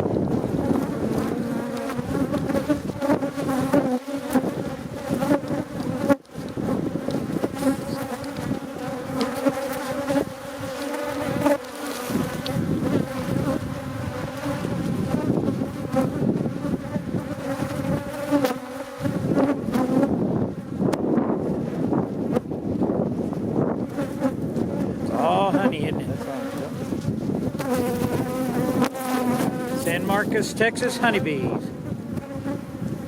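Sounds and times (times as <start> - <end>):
bees buzzing loudly: 0.0 - 33.0.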